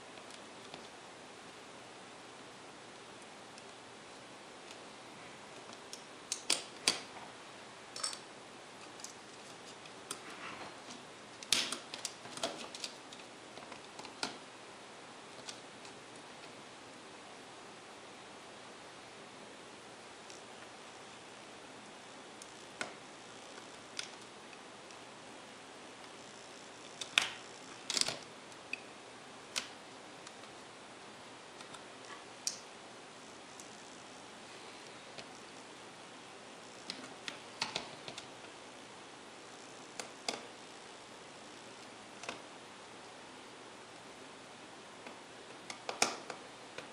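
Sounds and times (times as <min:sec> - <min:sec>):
faint steady hiss: 0:00.0 - 0:46.9.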